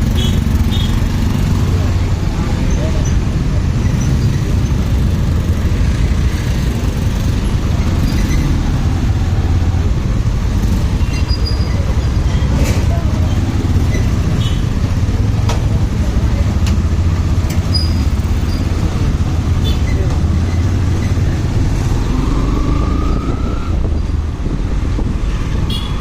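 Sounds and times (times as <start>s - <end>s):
motorcycle engine rumbling: 0.0s - 26.0s
road noise: 0.0s - 26.0s.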